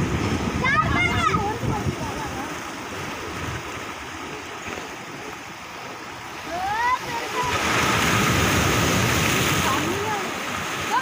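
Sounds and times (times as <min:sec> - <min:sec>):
surf washing over rocks: 0:00.0 - 0:11.0.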